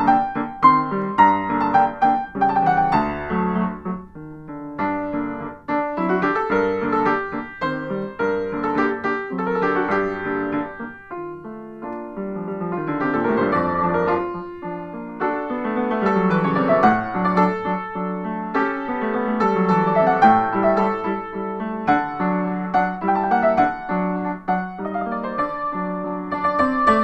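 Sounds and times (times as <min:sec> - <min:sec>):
solo upright piano playing: 0:00.0 - 0:27.0.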